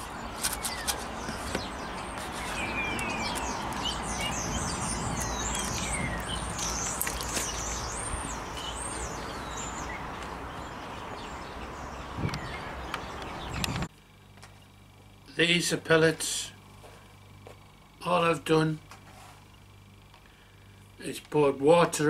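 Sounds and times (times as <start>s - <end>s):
outdoor background rush: 0.0s - 21.8s
songbirds chirping and trilling: 0.0s - 22.0s.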